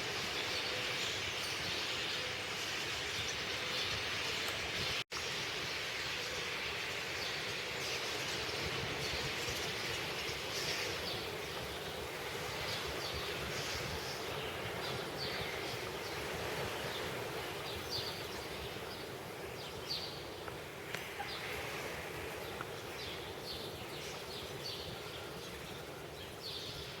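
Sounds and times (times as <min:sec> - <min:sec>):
birds chirping: 0:00.0 - 0:27.0
steady background hiss: 0:00.0 - 0:27.0.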